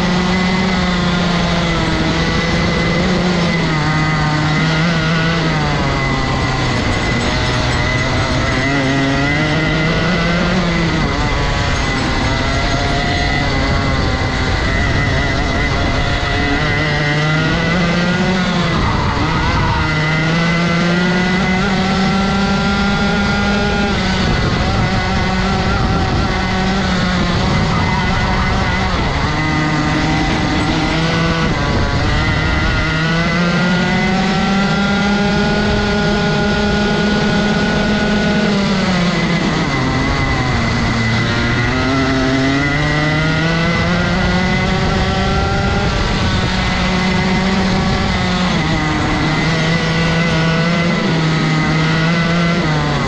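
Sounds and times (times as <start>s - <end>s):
kart engine accelerating: 0.0s - 53.0s.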